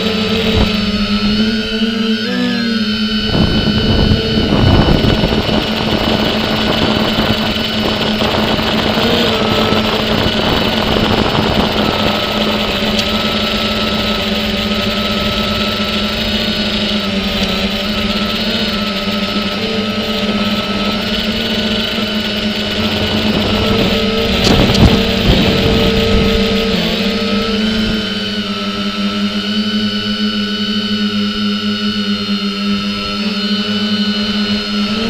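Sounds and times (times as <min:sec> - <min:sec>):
drone motors and propellers humming: 0:00.0 - 0:35.0.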